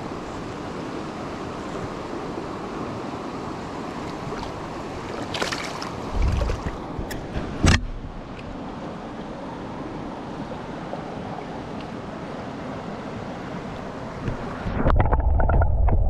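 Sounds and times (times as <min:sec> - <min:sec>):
river water rushing: 0:00.0 - 0:14.7.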